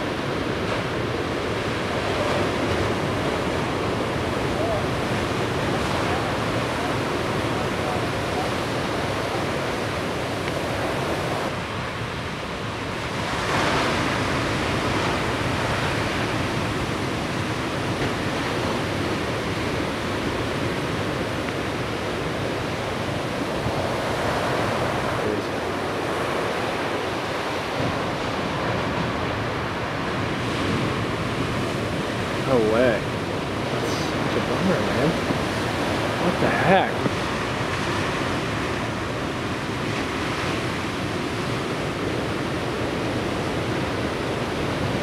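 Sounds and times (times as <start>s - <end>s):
ocean surf breaking: 0.0s - 45.0s.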